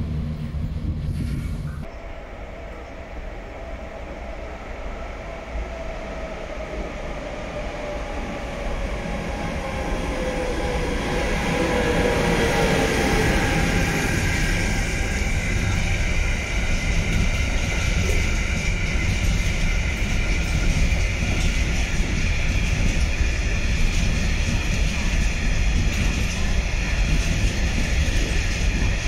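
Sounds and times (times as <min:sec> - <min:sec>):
freight train rumble: 0:00.0 - 0:29.0
locomotive hum sliding down: 0:00.0 - 0:29.0.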